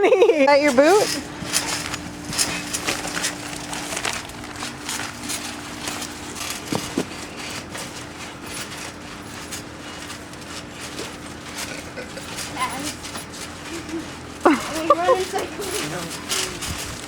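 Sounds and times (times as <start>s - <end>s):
soft thumps on trampoline: 0.7s - 17.0s.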